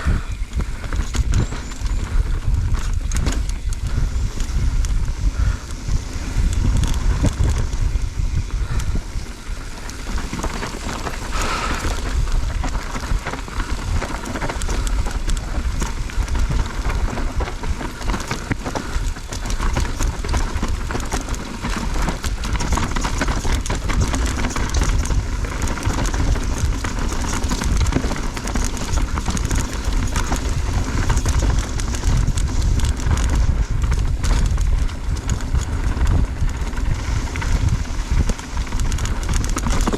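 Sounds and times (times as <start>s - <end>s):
bike tyres clattering over rocks: 0.0s - 39.9s
wind rumble on microphone: 0.0s - 39.9s.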